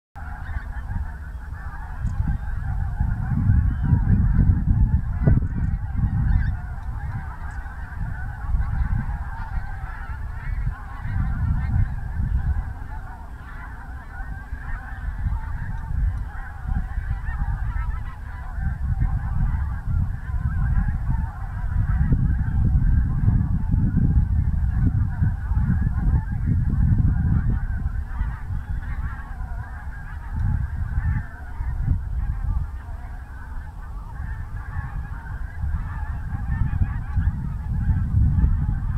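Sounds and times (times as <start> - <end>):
many birds calling: 0.2 - 38.9.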